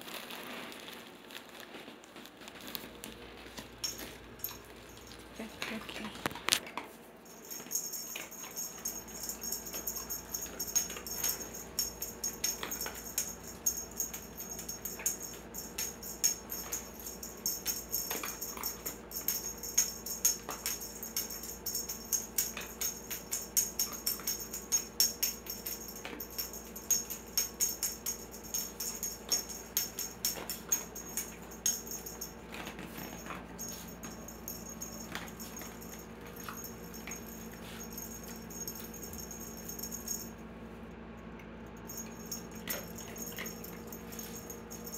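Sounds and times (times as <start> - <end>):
cat toy rattling and jingling: 0.0 - 40.4, 41.8 - 44.9.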